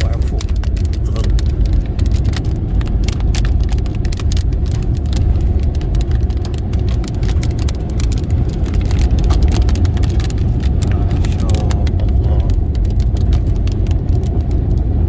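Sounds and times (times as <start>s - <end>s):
car driving rumble: 0.0s - 15.0s
heavy rain hitting a car: 0.0s - 15.0s.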